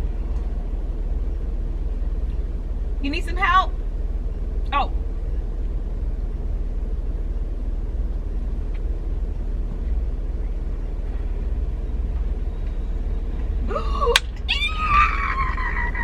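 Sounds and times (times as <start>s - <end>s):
car engine rumble inside cabin: 0.0s - 16.0s.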